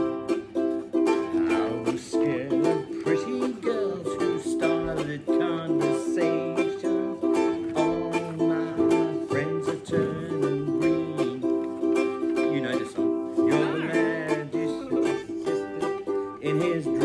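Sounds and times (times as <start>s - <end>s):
ukulele strumming: 0.0s - 17.0s.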